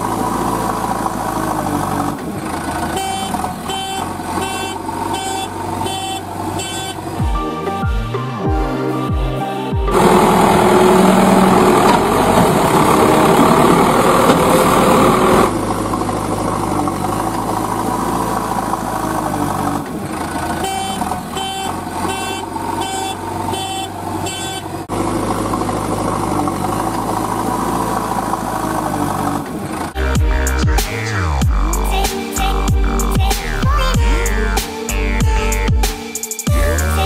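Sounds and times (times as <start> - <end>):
motor vehicle engine running: 0.0 - 8.1, 9.8 - 35.9, 36.5 - 37.0.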